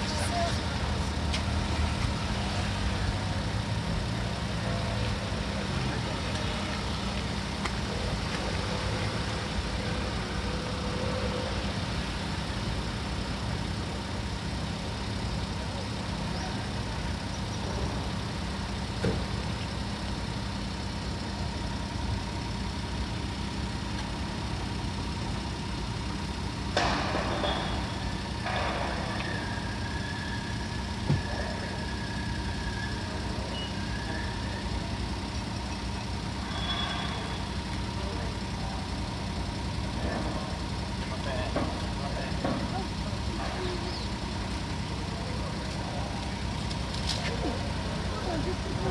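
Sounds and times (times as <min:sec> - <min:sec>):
ferry engine hum: 0:00.0 - 0:48.9.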